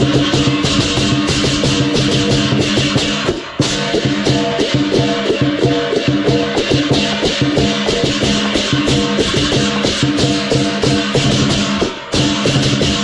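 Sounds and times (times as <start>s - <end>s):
drum: 0.0s - 13.0s
gong: 0.0s - 13.0s
hand cymbals: 0.0s - 13.0s.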